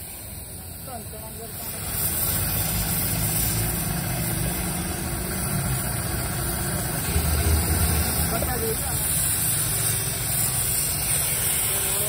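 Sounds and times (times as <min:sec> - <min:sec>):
engine idling: 0:00.1 - 0:12.0.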